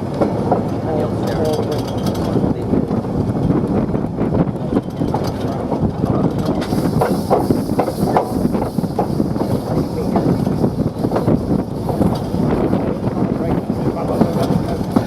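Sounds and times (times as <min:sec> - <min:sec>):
train wheels clanking: 0:00.0 - 0:02.6, 0:04.7 - 0:15.0
train rumbling on track: 0:00.0 - 0:15.0.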